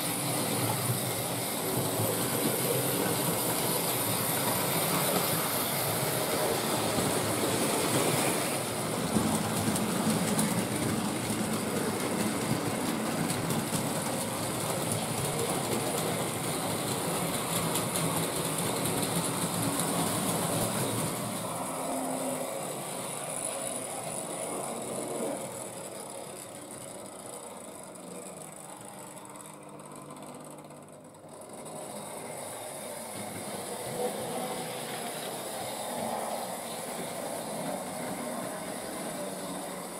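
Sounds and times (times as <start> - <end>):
model trains running on metal rails: 0.0 - 39.9.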